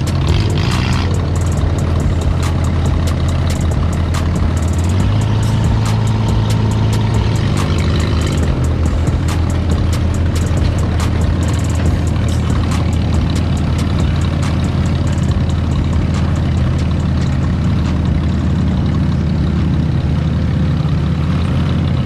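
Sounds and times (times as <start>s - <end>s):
sharp clicking or rattling: 0.0s - 18.4s
buggy engine humming: 0.0s - 22.0s.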